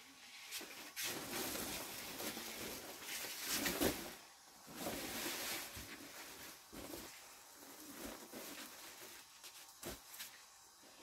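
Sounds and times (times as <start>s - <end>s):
plastic tarpaulin rustling: 0.0s - 11.0s.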